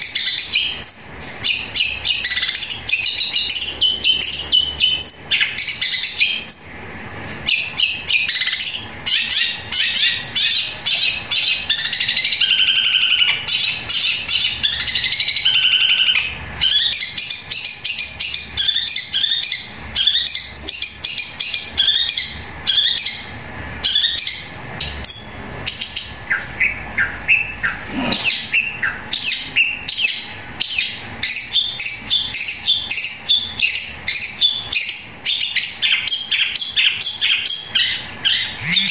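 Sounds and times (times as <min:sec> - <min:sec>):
bird singing fast chirps and trills: 0:00.0 - 0:38.9
mimicked sparrow calls: 0:00.0 - 0:38.9.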